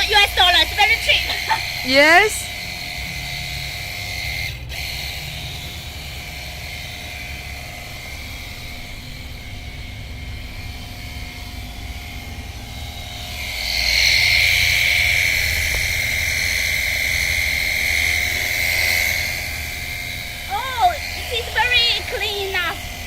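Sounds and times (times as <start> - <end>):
pressure washer motor whine: 0.0 - 23.0.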